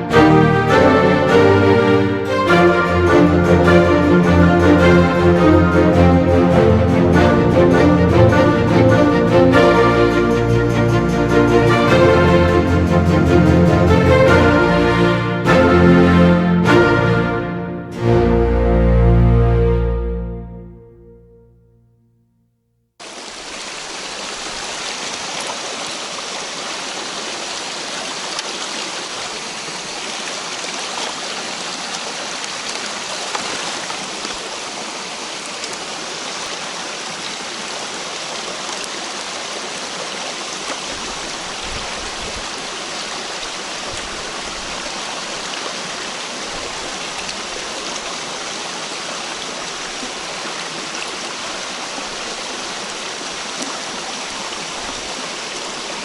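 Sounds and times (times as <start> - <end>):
stream water rushing: 0.0 - 20.6, 23.0 - 56.0.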